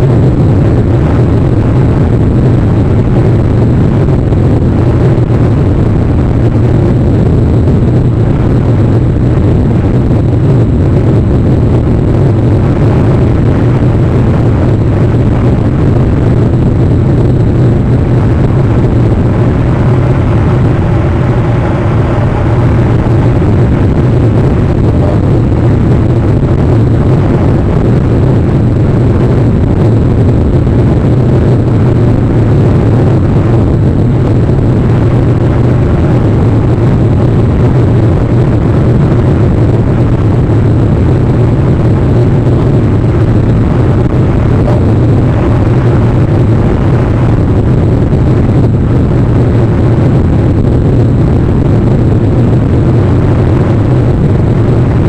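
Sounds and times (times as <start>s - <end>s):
loud steady noise: 0.0s - 55.0s
low hum: 0.0s - 55.0s.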